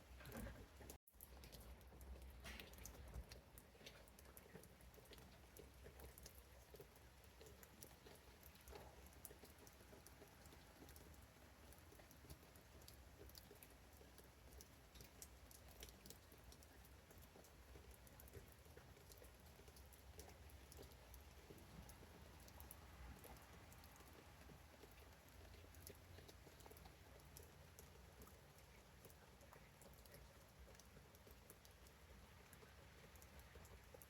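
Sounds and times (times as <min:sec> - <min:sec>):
raindrops pattering: 0:00.0 - 0:34.0.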